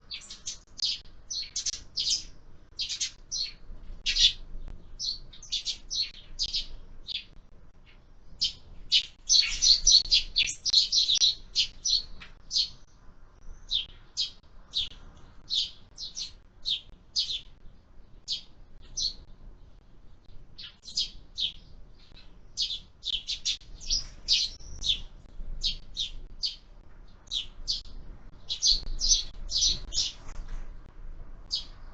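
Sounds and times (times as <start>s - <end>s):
sparrows chirping: 0.0s - 31.9s.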